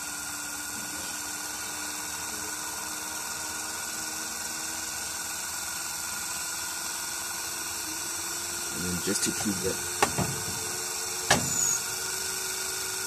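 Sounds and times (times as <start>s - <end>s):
electric motor hum and whine: 0.0s - 13.0s.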